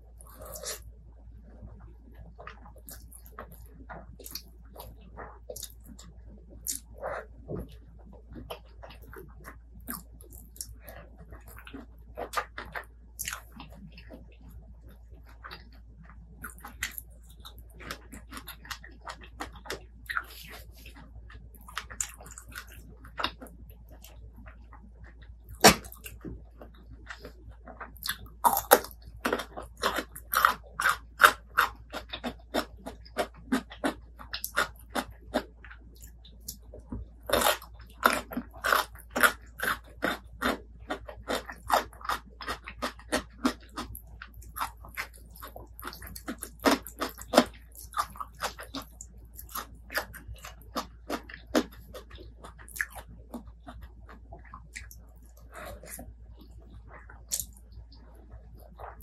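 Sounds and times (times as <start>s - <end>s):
chewing with wet mouth clicks: 2.2s - 59.0s.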